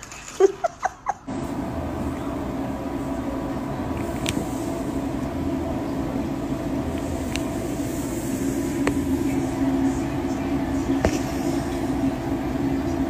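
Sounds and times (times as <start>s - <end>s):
steady low hum: 0.6s - 13.0s.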